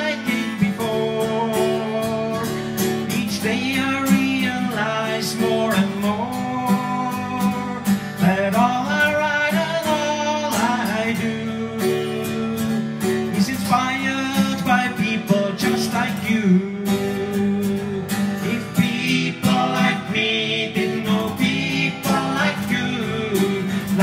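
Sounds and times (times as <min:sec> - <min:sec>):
man singing: 0:00.0 - 0:24.0
strummed acoustic guitar: 0:00.0 - 0:24.0.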